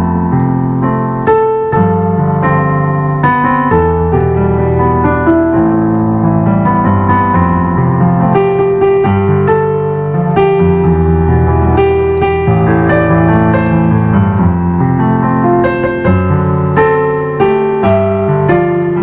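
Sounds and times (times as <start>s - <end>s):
soft worship piano music: 0.0s - 19.0s.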